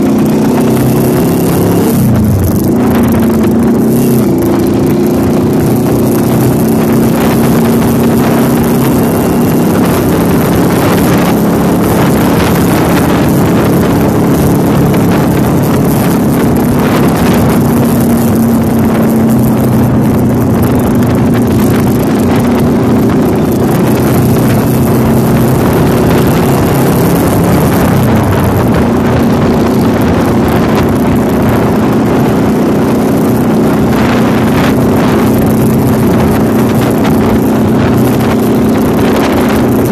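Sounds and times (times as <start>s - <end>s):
motorcycle engine droning: 0.0s - 39.9s
wind rushing on microphone: 0.0s - 39.9s.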